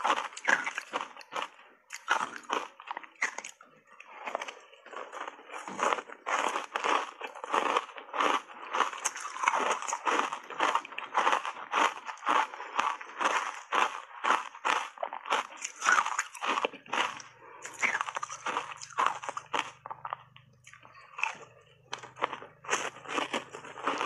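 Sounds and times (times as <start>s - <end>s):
ice crunching and chewing: 0.0s - 24.0s.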